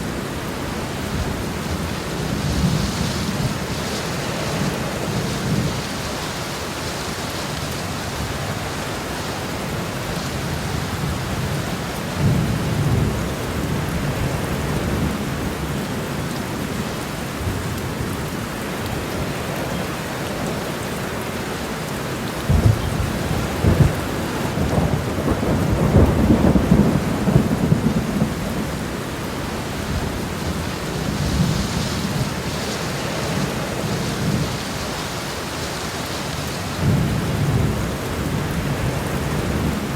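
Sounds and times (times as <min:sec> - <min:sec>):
heavy rain on road: 0:00.0 - 0:39.9.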